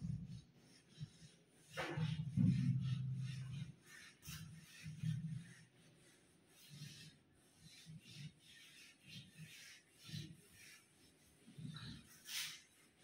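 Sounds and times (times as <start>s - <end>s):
eraser rubbing on whiteboard: 0.0s - 13.0s.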